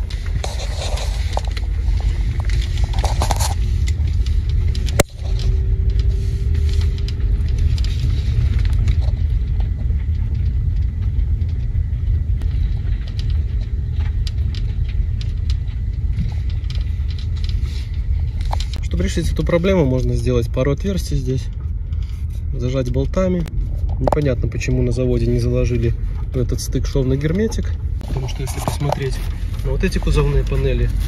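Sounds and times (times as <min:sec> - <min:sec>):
road rumble inside car: 0:00.0 - 0:31.0.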